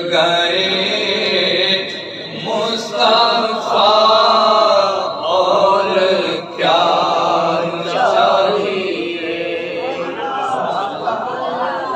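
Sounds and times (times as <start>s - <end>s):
person chanting unaccompanied: 0.0s - 11.9s.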